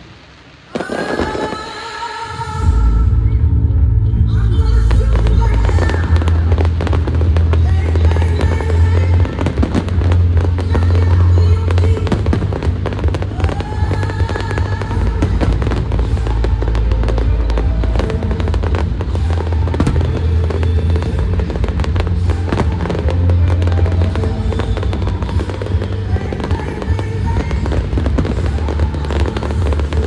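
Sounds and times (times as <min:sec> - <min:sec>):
fireworks bangs and crackles: 0:00.0 - 0:02.9, 0:04.9 - 0:30.0
loud show music with heavy bass: 0:02.6 - 0:30.0.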